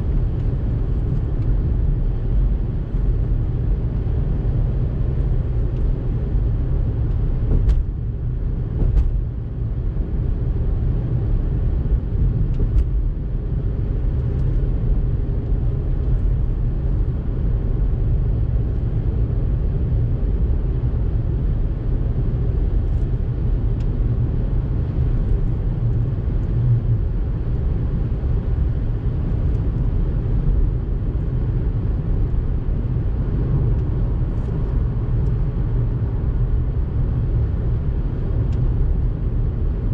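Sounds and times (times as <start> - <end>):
tyres and engine rumble in car: 0.0 - 39.9.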